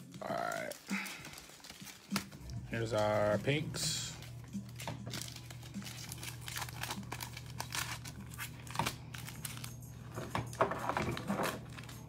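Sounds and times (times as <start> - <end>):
plastic wrappers crinkling and tearing: 0.0 - 12.0.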